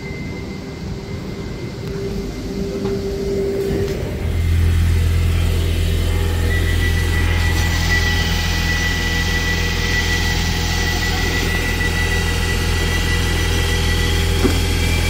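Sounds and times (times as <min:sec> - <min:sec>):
loud low train hum: 0:00.0 - 0:15.0
steady train tone: 0:00.0 - 0:15.0
train braking to a stop: 0:00.0 - 0:15.0.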